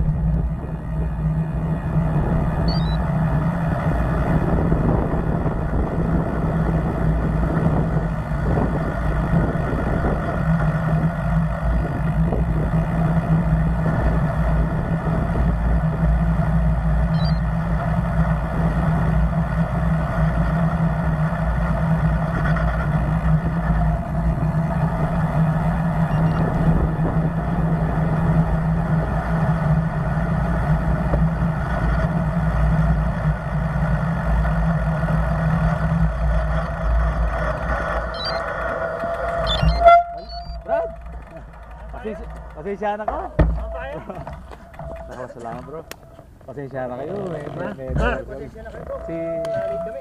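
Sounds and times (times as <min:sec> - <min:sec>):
vehicle road noise: 0:00.0 - 0:50.0.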